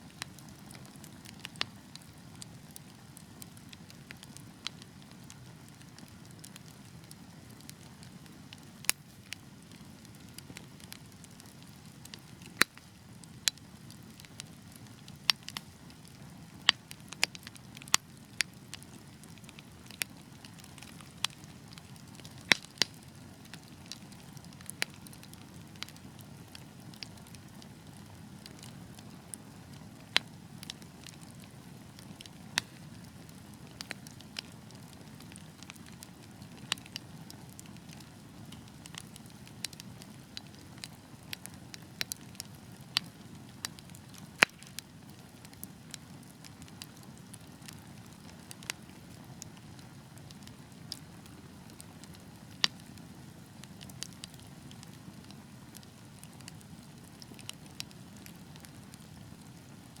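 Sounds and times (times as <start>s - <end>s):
wood fire crackling and popping: 0.0s - 60.0s.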